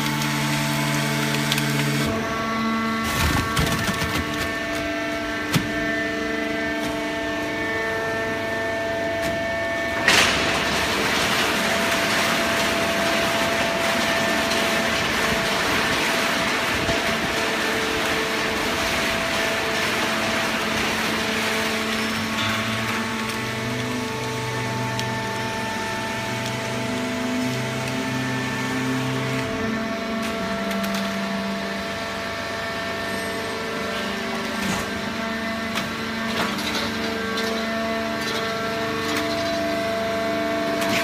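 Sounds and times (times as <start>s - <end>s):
machine hum: 0.0s - 41.0s.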